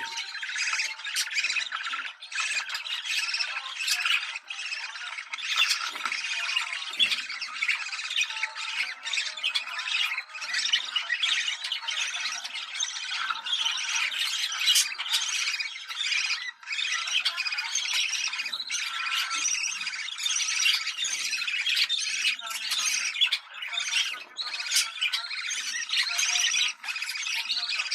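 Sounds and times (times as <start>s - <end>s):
budgerigars chattering and squawking: 0.0s - 27.9s.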